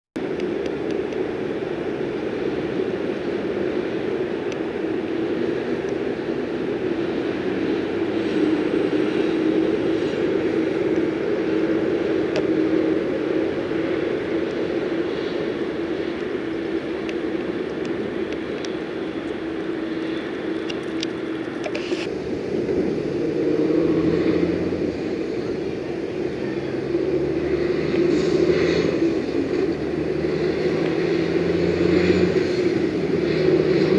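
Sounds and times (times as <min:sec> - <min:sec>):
road traffic rumble: 0:00.2 - 0:33.9
trucks passing: 0:00.2 - 0:33.9.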